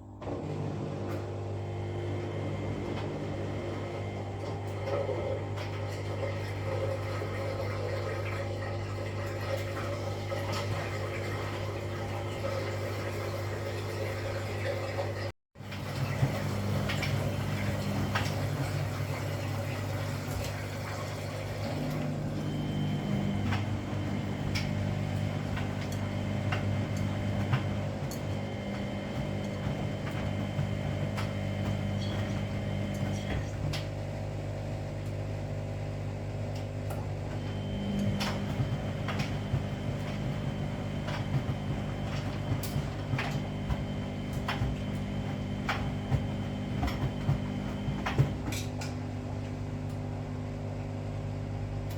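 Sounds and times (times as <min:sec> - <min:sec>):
washing machine motor hum: 0:00.0 - 0:51.9.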